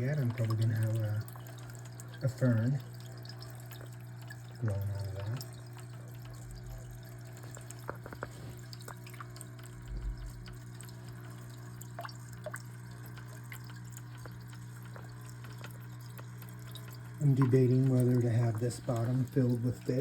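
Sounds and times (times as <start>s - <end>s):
low pump hum: 0.0s - 20.0s
water trickling onto stone: 0.0s - 20.0s.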